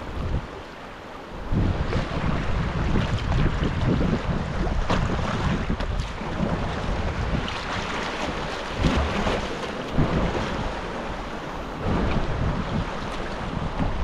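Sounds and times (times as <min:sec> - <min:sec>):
wind buffeting microphone: 0:00.0 - 0:00.6, 0:01.3 - 0:14.0
water splashing: 0:01.6 - 0:14.0.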